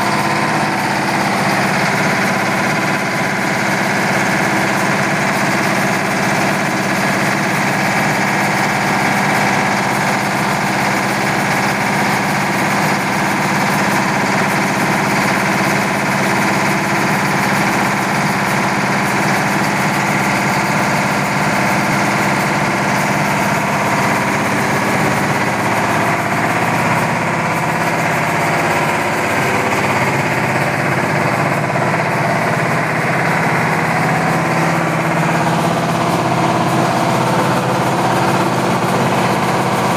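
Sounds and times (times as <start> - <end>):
diesel engine driving rice mill: 0.0 - 39.9.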